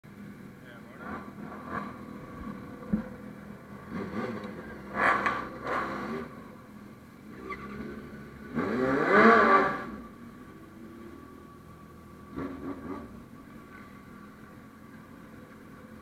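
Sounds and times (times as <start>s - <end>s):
motorcycle engine revving: 0.8s - 16.0s.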